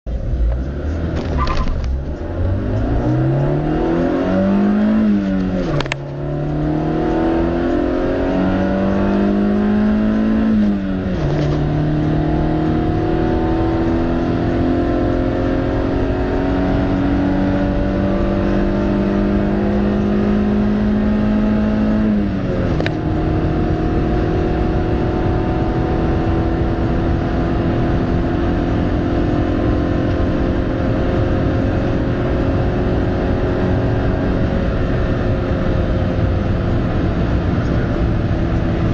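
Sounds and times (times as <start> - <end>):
car engine accelerating hard: 0.1 - 38.9.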